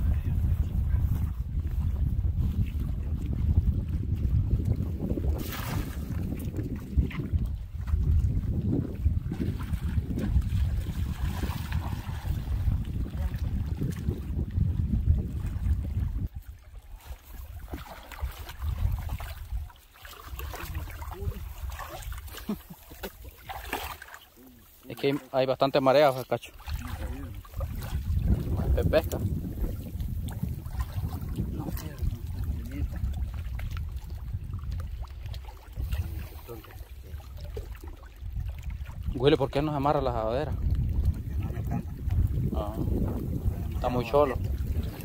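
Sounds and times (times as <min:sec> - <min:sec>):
wind buffeting microphone: 0:00.0 - 0:24.0, 0:25.7 - 0:45.0
water splashing around feet: 0:00.5 - 0:45.0.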